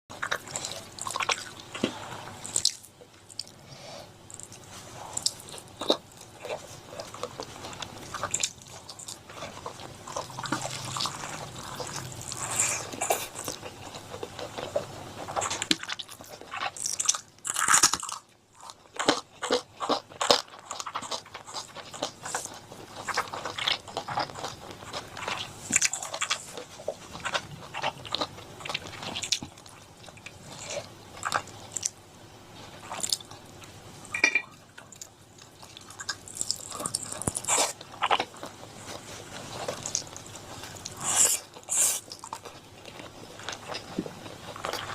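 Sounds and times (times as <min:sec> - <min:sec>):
chewing and biting food: 0:00.1 - 0:03.6, 0:04.3 - 0:32.0, 0:32.6 - 0:33.8, 0:34.7 - 0:44.9.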